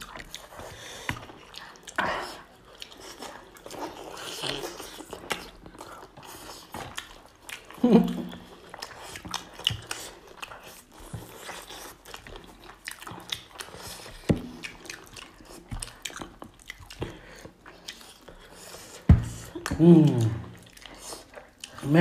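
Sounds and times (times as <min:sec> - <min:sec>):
people chewing and smacking: 0:00.0 - 0:22.0.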